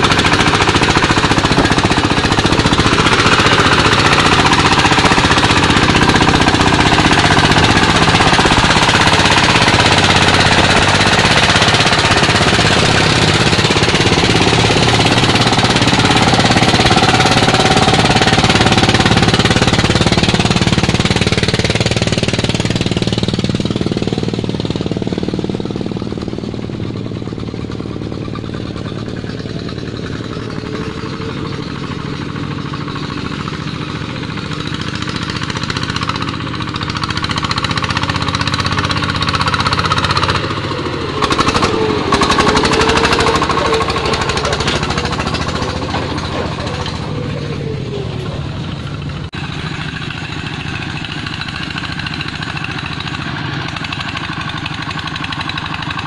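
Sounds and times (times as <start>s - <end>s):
diesel engine pounding: 0.0s - 56.0s.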